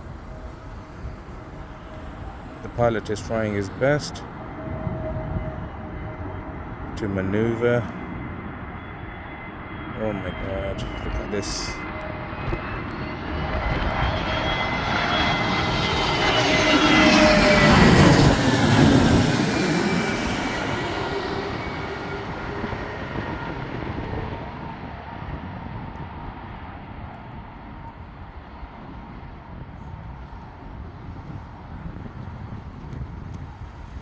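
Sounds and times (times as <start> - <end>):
airliner jet engines passing overhead: 0.0 - 34.0.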